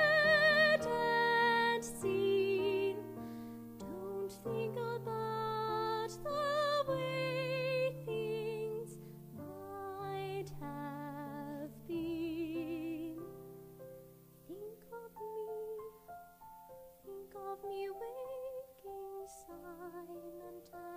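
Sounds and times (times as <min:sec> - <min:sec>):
soprano singing with vibrato: 0:00.0 - 0:13.4, 0:14.4 - 0:16.2, 0:16.9 - 0:20.9
piano accompaniment: 0:00.0 - 0:20.9.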